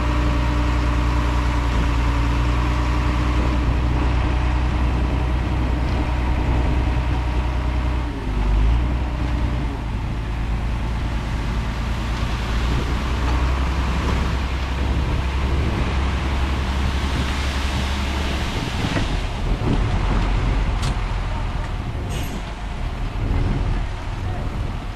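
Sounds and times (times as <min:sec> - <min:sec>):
heavy diesel engine under load: 0:00.0 - 0:24.9.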